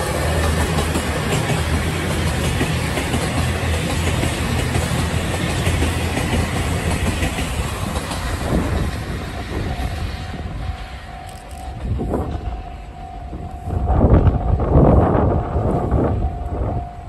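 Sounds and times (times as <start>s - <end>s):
diesel train engine drone: 0.0s - 17.0s
train wheel and rail noise: 0.0s - 17.0s.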